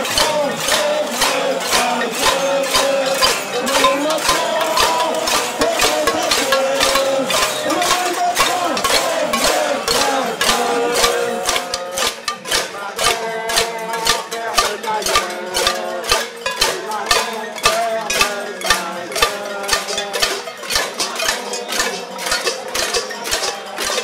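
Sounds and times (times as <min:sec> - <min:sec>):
pots and pans banging: 0:00.0 - 0:24.0.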